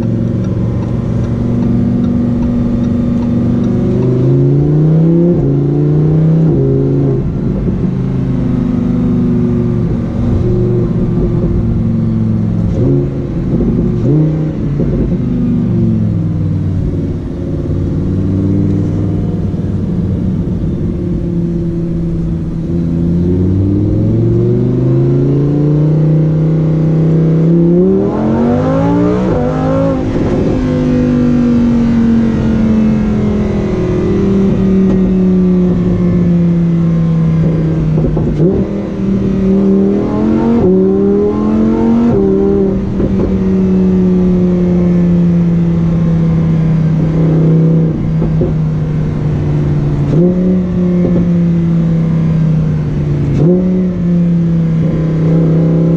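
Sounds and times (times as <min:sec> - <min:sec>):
sports car engine revving: 0:00.0 - 0:55.9.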